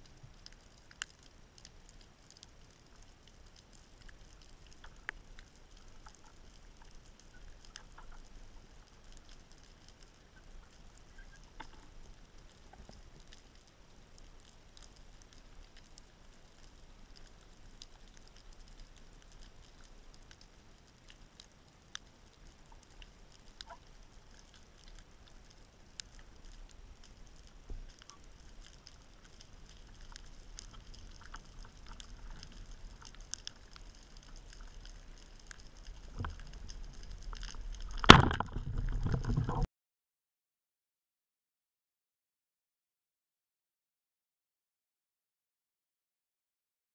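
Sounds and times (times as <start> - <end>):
small clicks and crackles: 0.0 - 39.7.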